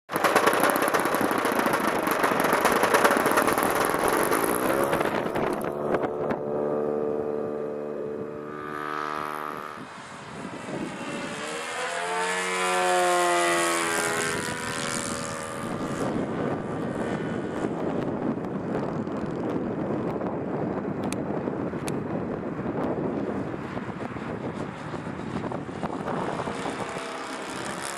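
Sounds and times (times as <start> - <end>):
model plane engine at high throttle: 0.1 - 27.9.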